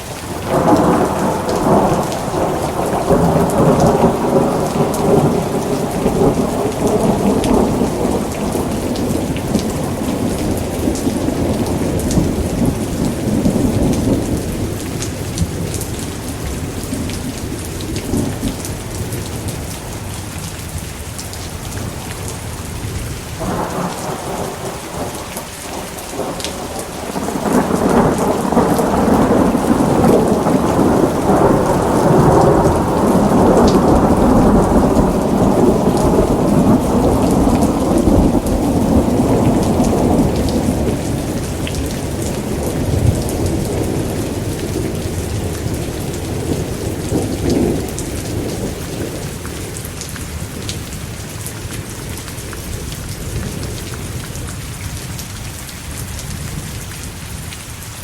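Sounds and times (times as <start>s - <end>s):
heavy rain: 0.0s - 58.0s
rolling thunder: 0.3s - 19.7s, 21.8s - 50.8s.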